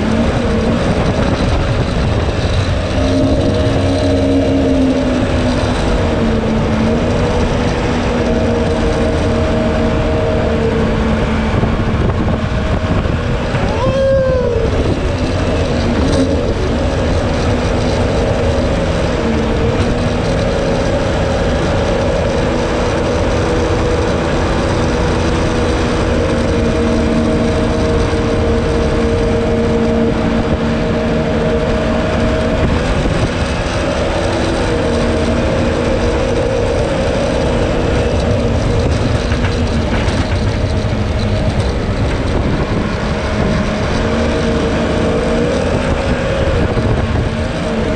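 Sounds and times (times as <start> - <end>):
boat engine running at speed: 0.0 - 47.9
water rushing along hull: 0.0 - 47.9.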